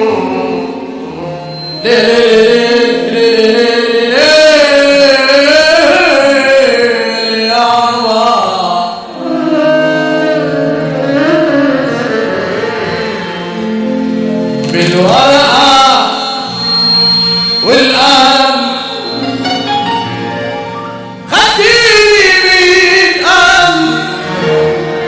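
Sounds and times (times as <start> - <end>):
song with sliding melody: 0.0 - 25.0.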